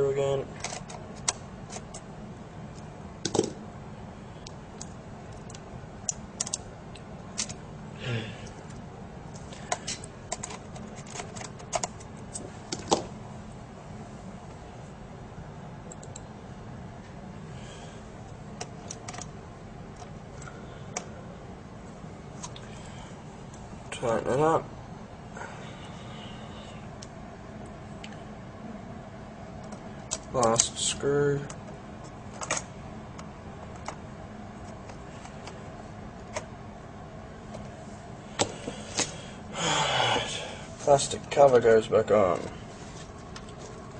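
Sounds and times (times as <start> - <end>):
low background noise: 0.0 - 43.9
steady low hum: 0.0 - 43.9.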